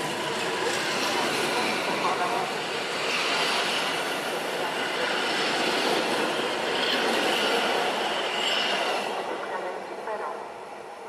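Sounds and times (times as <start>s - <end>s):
wheel and track noise: 0.0s - 9.3s
electric train running past: 0.0s - 11.0s.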